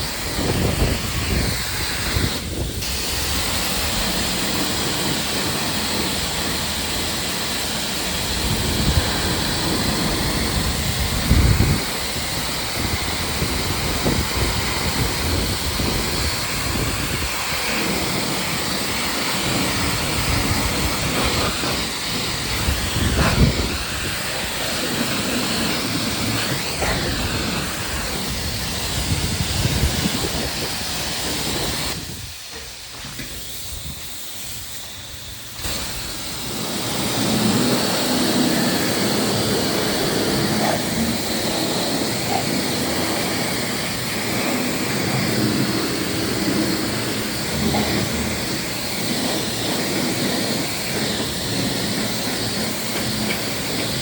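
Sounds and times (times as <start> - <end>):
wind buffeting microphone: 0.0 - 32.5, 33.2 - 54.0.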